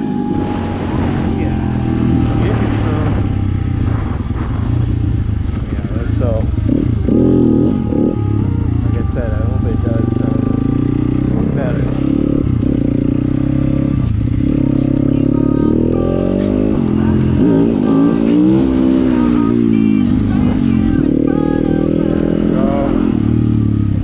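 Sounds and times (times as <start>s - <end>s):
motorcycle engine revving: 0.0s - 15.1s, 15.7s - 24.0s.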